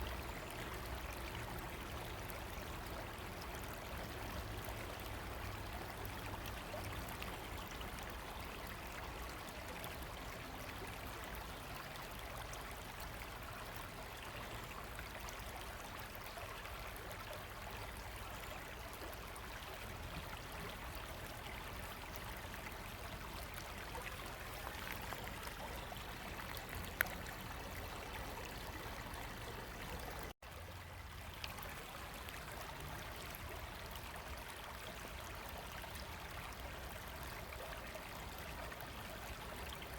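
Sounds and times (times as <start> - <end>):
river running: 0.0 - 39.9.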